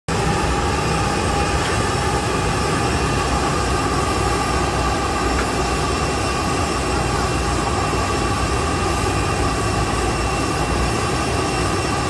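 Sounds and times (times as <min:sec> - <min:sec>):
jet engines whining: 0:00.1 - 0:12.0.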